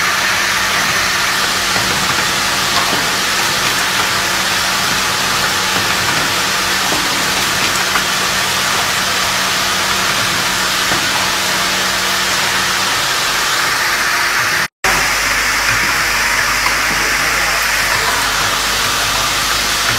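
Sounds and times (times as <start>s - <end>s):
machine hissing din: 0.0s - 19.9s.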